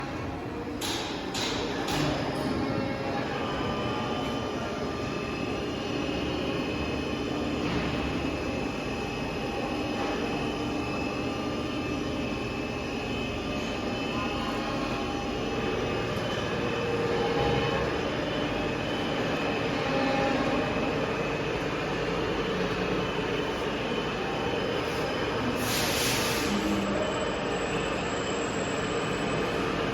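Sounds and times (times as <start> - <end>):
machinery humming: 0.0 - 29.9
high machine whine: 2.4 - 29.9.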